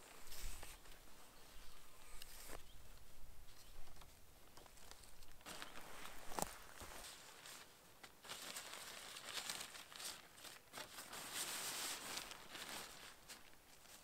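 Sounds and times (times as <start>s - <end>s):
dry rustling and crackling: 0.0s - 14.0s.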